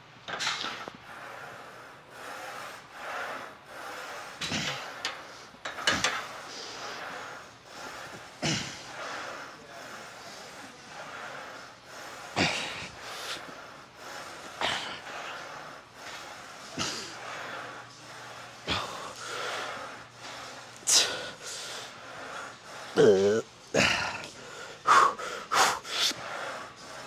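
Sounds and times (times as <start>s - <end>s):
sharp forceful breaths: 0.3s - 23.0s, 23.7s - 27.0s.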